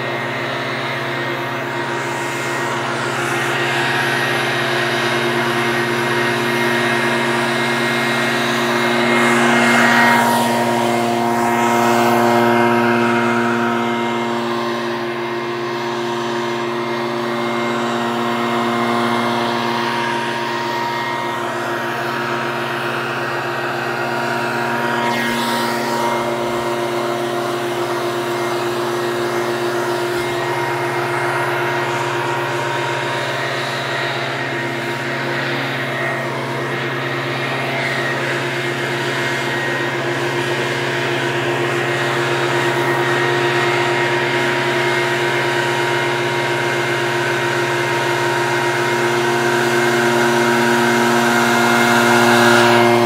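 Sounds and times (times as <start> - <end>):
leaf blower running: 0.0 - 53.0.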